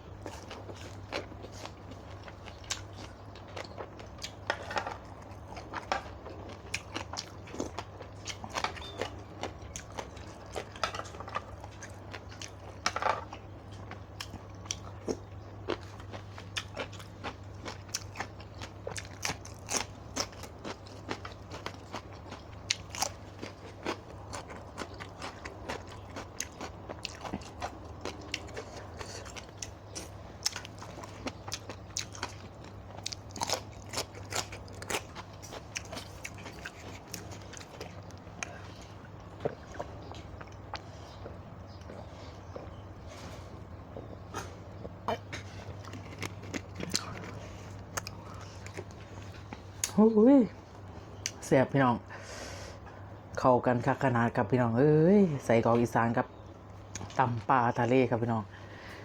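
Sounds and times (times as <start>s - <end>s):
person chewing crunchy food: 0.0s - 50.0s
low steady hum: 0.0s - 59.0s.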